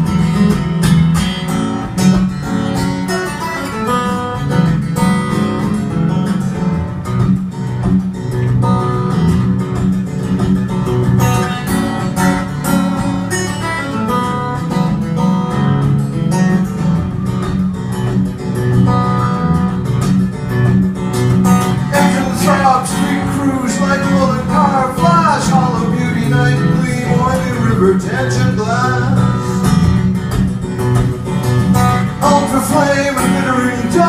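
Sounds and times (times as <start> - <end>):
acoustic guitar picking: 0.0 - 34.0.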